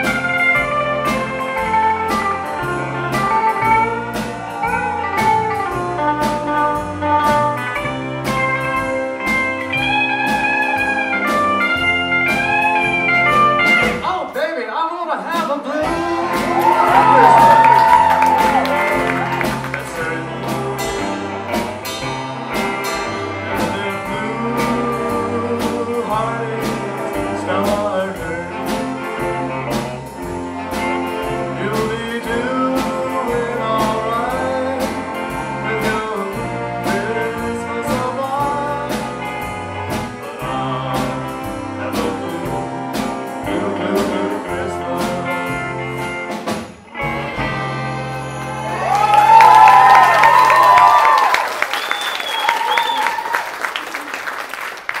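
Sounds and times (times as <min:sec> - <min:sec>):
live rockabilly band playing: 0:00.0 - 0:55.0.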